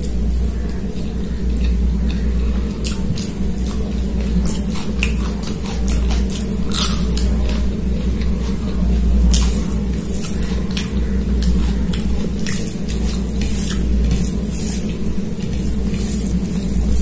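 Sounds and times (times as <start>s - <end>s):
steady low hum: 0.0s - 17.0s
wet chewing and lip smacks: 2.8s - 16.7s.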